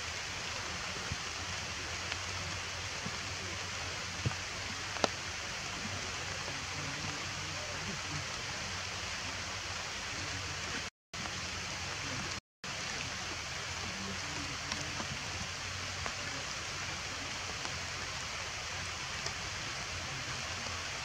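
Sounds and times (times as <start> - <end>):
rain falling on foliage: 0.0 - 21.0.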